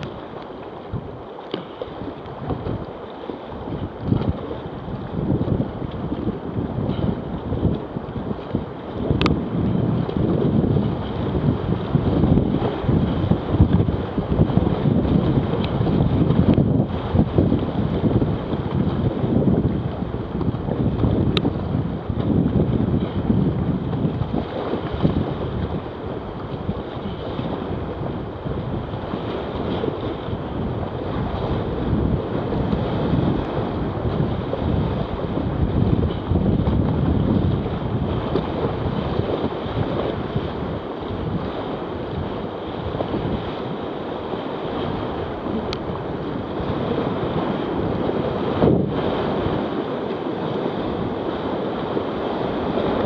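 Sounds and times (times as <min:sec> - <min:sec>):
paddle splashing: 0:00.0 - 0:53.0
wind buffeting microphone: 0:00.0 - 0:53.0.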